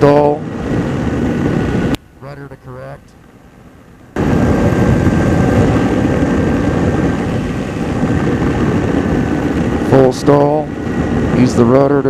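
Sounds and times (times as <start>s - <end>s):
rushing air: 0.0s - 2.0s, 2.8s - 12.0s
ultralight aircraft engine: 0.0s - 12.0s.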